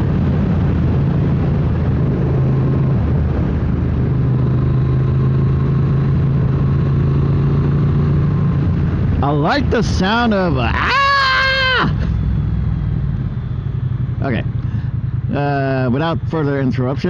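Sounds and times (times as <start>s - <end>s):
motorcycle engine running: 0.0s - 10.4s, 12.0s - 17.0s
wind and road noise: 0.0s - 17.0s.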